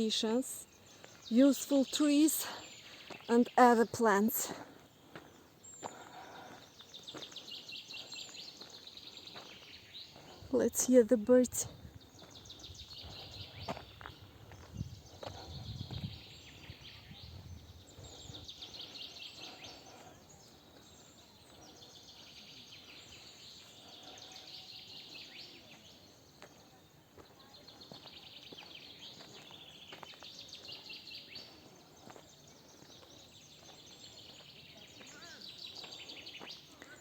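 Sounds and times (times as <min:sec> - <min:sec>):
songbirds trilling: 0:00.0 - 0:37.0.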